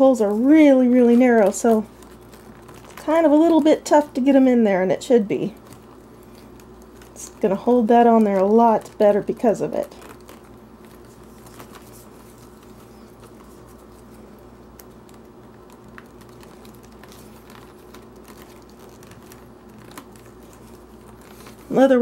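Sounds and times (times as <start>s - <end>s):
leather strings scratching and clicking: 0.0s - 4.3s, 5.6s - 22.0s
steady low hum: 0.0s - 22.0s.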